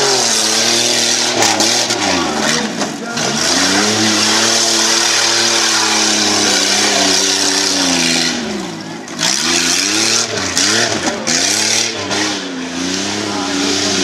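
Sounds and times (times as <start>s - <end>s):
engine revving hard: 0.0s - 14.0s.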